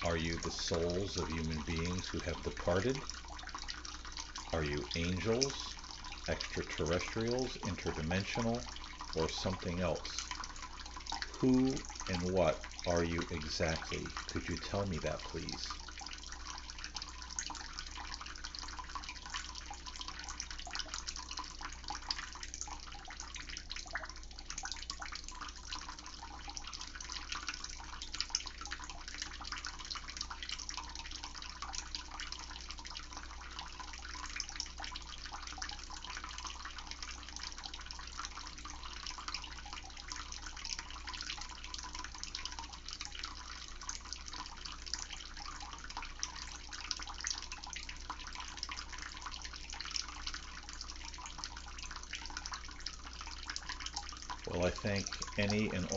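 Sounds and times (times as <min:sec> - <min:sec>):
water running: 0:00.0 - 0:55.9.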